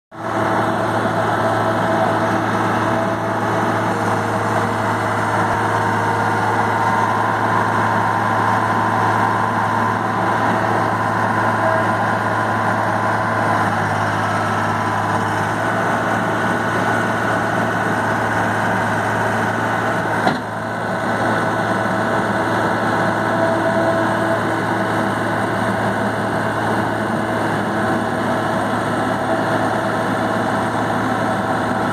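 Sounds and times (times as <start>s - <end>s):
diesel engine running: 0.1s - 31.9s
loader driving on gravel: 0.2s - 31.9s.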